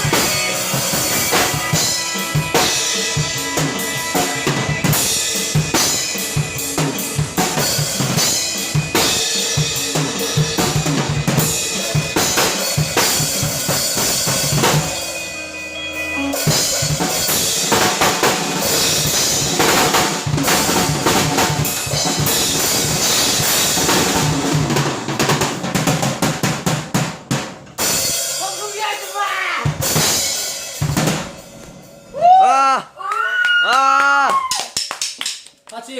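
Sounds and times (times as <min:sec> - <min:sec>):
drum kit groove: 0:00.0 - 0:32.8.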